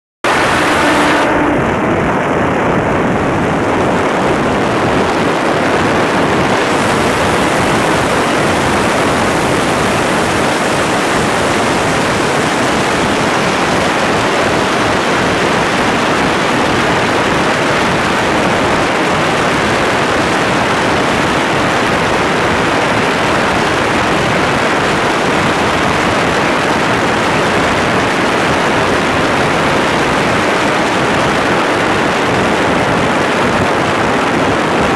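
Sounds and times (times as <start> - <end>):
loud wind rushing over microphone: 0.2 - 34.9.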